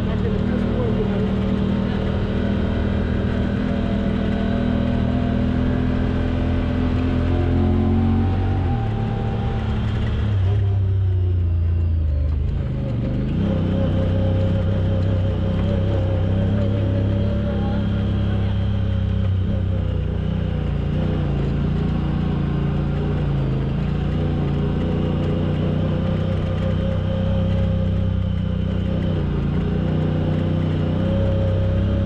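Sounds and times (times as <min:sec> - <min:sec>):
off-road vehicle engine: 0:00.0 - 0:32.0.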